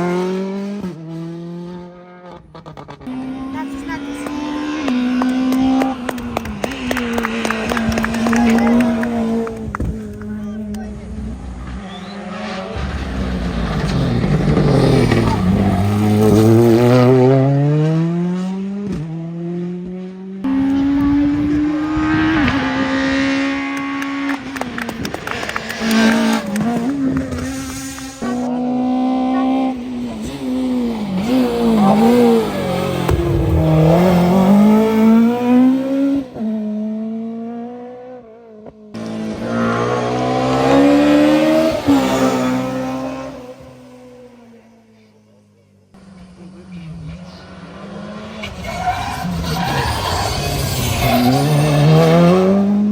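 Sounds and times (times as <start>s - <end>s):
rally car engine accelerating: 0.0s - 45.2s, 45.9s - 52.9s
car braking and downshifting: 0.0s - 52.9s.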